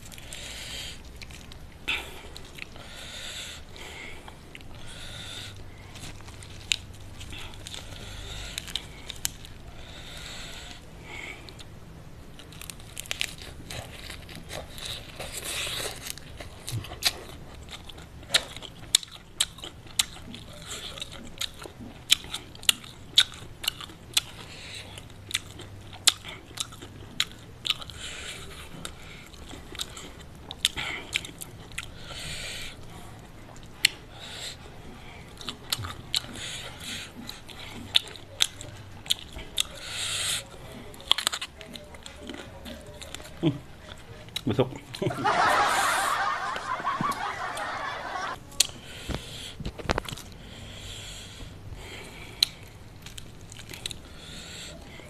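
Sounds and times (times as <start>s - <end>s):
chewing crunchy food: 0.0s - 45.2s, 48.2s - 55.0s.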